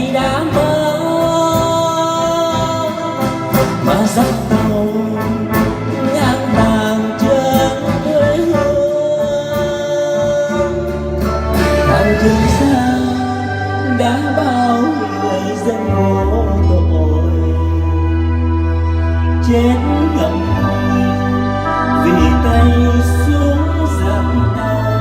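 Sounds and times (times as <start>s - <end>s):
instrumental backing music: 0.0s - 25.0s
person singing long notes: 0.0s - 25.0s.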